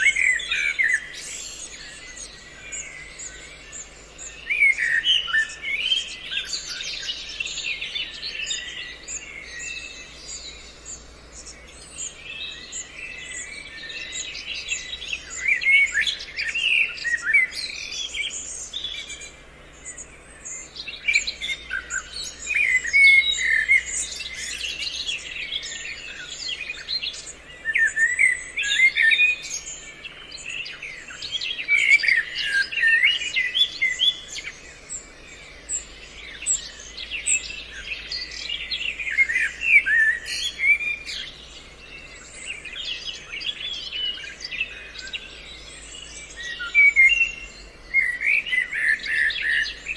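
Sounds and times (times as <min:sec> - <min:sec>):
birds chirping and singing: 0:00.0 - 0:49.9.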